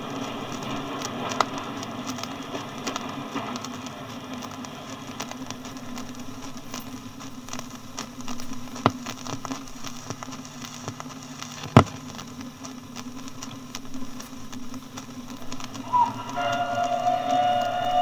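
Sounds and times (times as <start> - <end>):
loud record clicks: 0.0 - 18.0
low hum: 0.0 - 18.0
vinyl crackle and hiss: 0.0 - 18.0.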